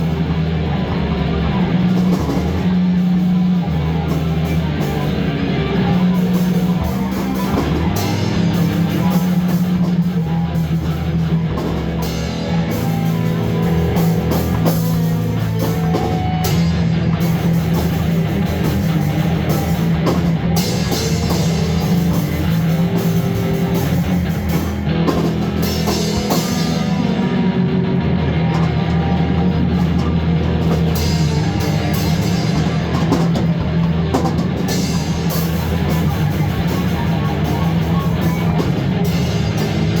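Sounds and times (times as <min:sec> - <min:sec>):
heavy metal rock music: 0:00.0 - 0:40.0.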